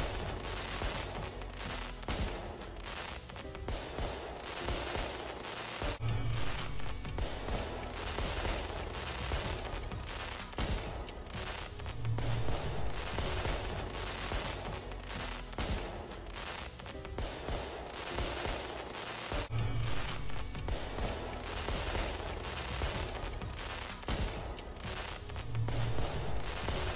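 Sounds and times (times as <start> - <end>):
fireworks bursting and crackling: 0.0 - 26.9.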